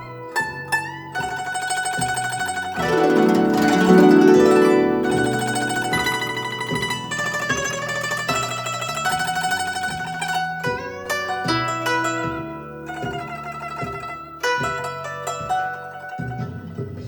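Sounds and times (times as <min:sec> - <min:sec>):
zither plucked strings: 0:00.0 - 0:17.0.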